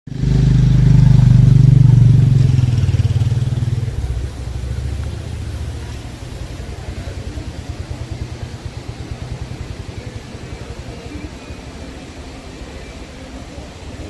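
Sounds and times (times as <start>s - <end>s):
vehicle engine running: 0.1s - 14.0s.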